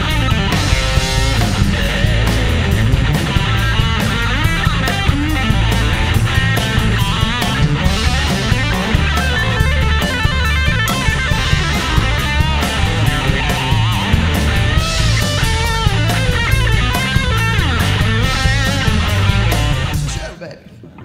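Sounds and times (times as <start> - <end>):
bass guitar: 0.0 - 20.4
drum kit: 0.0 - 20.4
electric guitar lead lines: 0.0 - 20.4.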